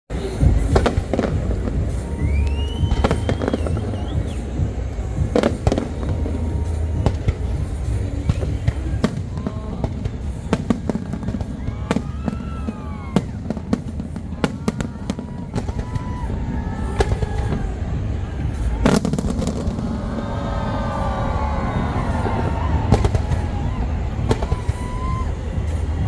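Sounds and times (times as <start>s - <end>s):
fireworks banging: 0.1s - 26.0s.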